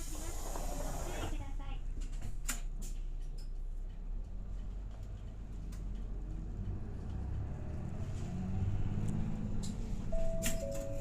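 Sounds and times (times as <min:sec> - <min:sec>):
bus engine: 0:00.0 - 0:11.0
road rumble: 0:00.0 - 0:11.0.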